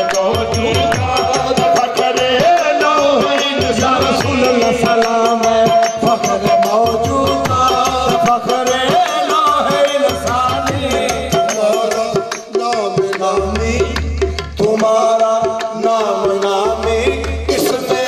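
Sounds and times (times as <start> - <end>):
tabla drumming: 0.0 - 18.0
voices singing: 0.0 - 18.0.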